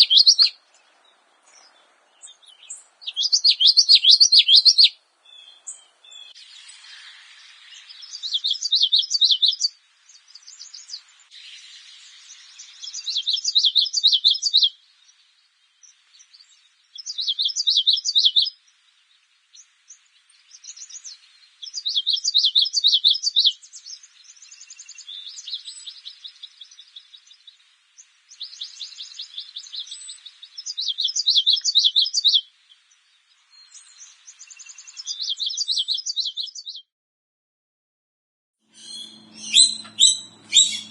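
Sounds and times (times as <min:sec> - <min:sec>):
small bird chirping trills: 0:00.0 - 0:36.9, 0:38.7 - 0:40.9.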